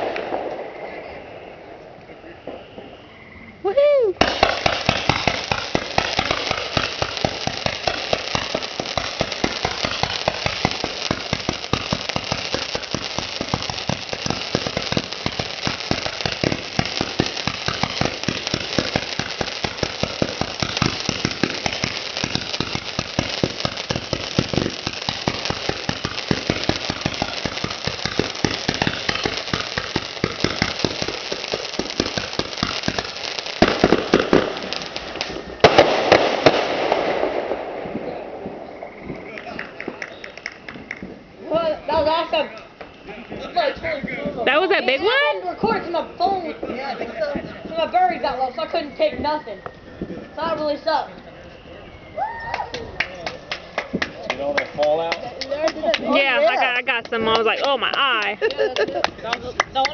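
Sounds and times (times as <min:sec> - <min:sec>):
fireworks bangs and crackles: 0:00.0 - 0:03.0, 0:03.6 - 0:59.9.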